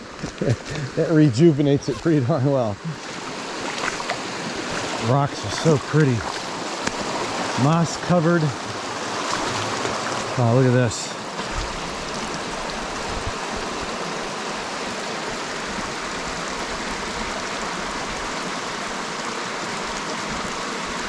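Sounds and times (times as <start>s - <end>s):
stream water rushing over rocks: 0.0s - 21.0s.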